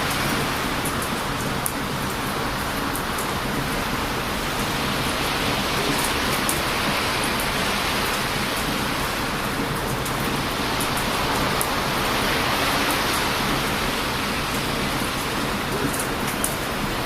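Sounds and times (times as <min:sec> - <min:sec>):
surf breaking on beach: 0:01.9 - 0:17.0.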